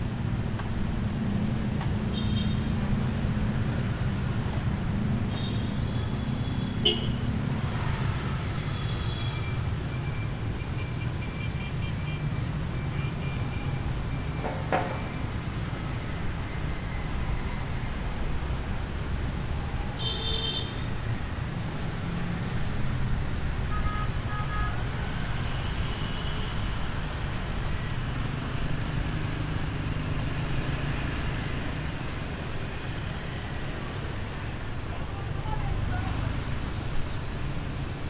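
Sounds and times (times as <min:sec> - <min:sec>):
rumble of passing traffic: 0:00.0 - 0:38.0.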